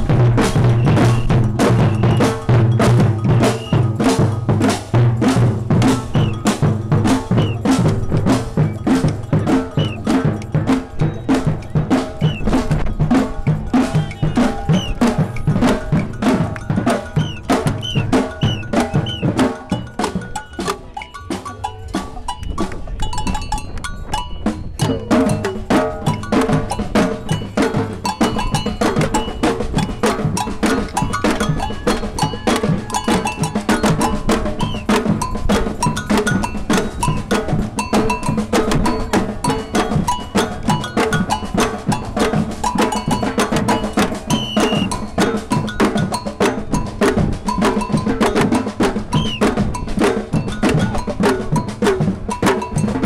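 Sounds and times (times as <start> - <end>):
agogo bells: 0.0 - 53.0
bass drums: 0.0 - 53.0.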